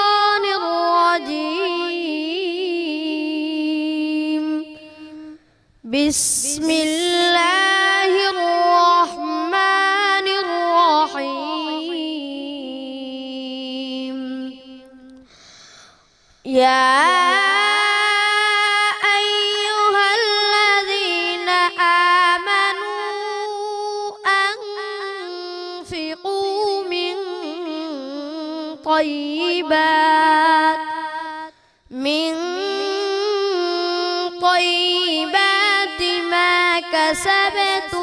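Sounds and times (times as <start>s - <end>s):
boy chanting recitation: 0.0s - 15.2s, 16.5s - 38.0s.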